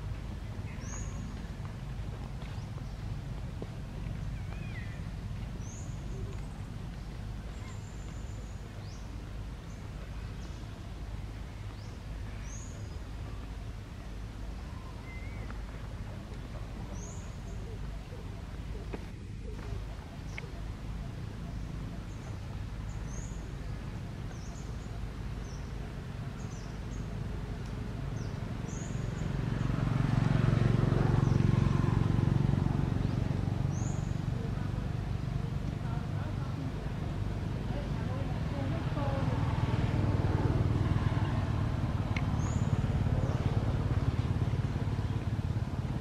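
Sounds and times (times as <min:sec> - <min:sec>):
low forest rumble: 0:00.0 - 0:46.0
small birds chirping: 0:00.0 - 0:46.0.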